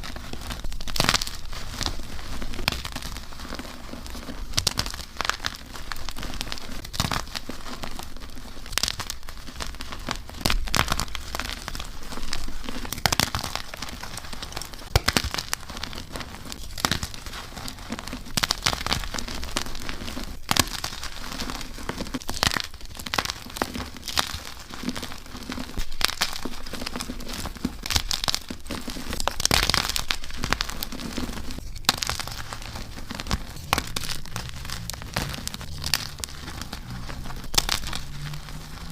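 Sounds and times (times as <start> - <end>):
chalk crunching and snapping: 0.0 - 38.9.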